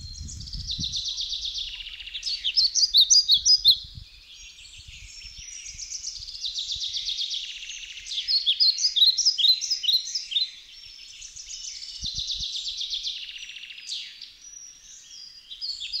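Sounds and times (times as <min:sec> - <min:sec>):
small songbirds singing: 0:00.0 - 0:16.0.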